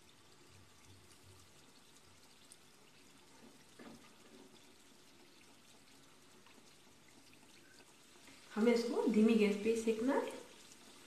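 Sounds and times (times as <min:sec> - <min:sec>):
donuts sizzling in oil: 0:00.0 - 0:11.0.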